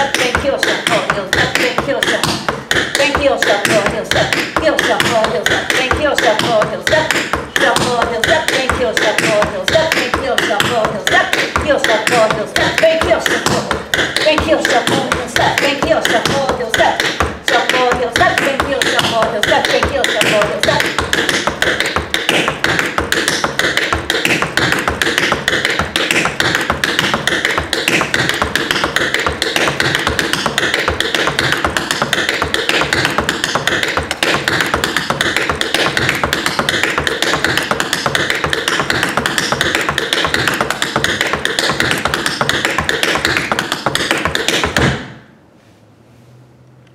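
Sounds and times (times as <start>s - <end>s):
tap shoes clicking on floor: 0.0s - 45.1s.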